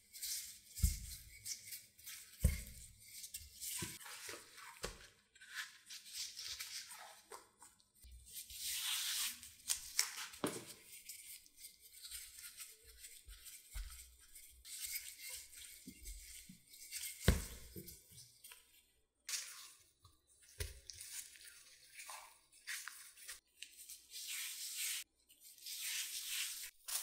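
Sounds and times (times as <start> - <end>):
dough rustling and scraping: 0.0 - 27.0.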